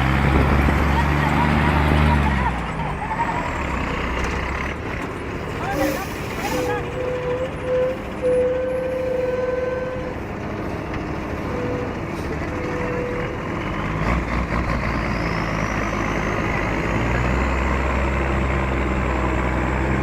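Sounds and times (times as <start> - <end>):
diesel truck engine running: 0.0 - 20.0.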